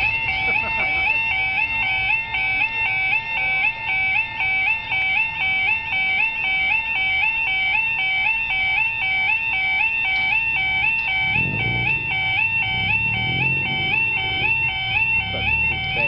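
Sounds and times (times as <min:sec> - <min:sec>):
two-tone electronic warning alarm: 0:00.0 - 0:16.0.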